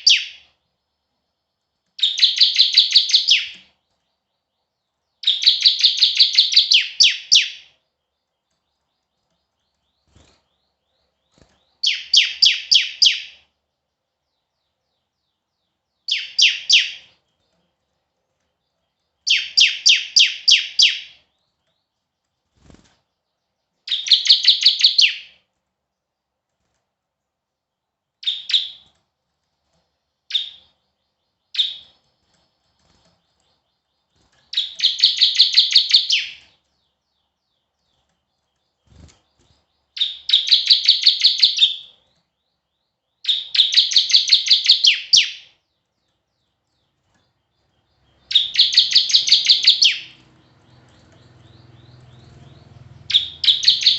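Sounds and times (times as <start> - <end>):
songbird chattering song: 0.0 - 26.3, 28.2 - 28.9, 30.0 - 53.9.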